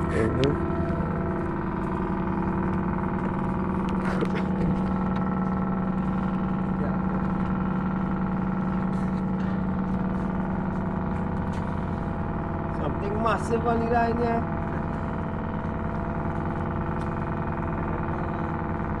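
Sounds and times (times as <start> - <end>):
ship engine droning: 0.0 - 19.0.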